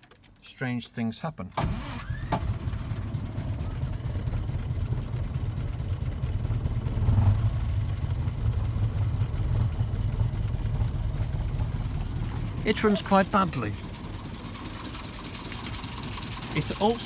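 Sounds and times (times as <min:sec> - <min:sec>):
car engine idling roughly: 0:02.0 - 0:17.0.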